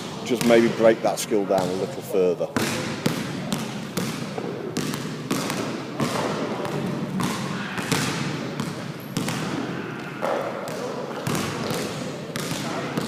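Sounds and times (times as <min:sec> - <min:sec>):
basketballs bouncing on court: 0:00.0 - 0:13.0
busy hall noise: 0:00.0 - 0:13.0.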